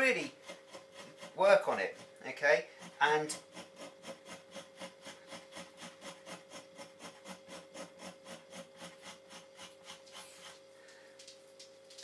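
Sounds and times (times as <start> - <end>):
knife scraping hide: 0.0 - 10.7.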